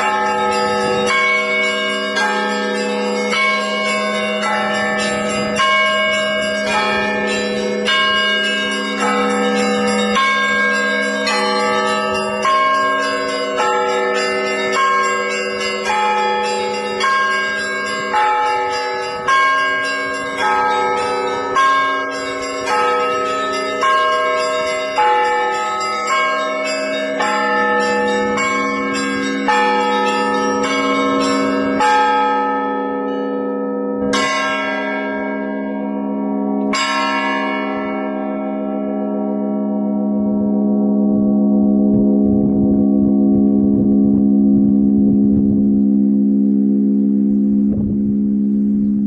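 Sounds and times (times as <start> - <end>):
church bells ringing: 0.0 - 49.0.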